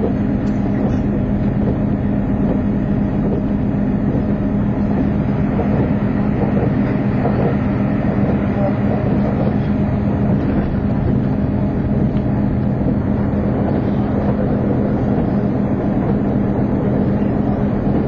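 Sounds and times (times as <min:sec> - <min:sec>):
train interior hum: 0:00.0 - 0:18.0
wheels running on rails: 0:00.0 - 0:18.0.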